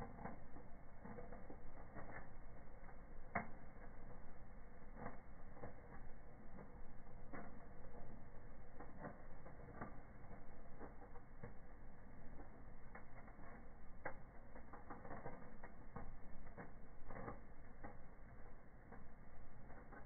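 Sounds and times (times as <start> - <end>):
low rumble of burning: 0.0 - 20.0
wood fire crackling: 0.0 - 20.0.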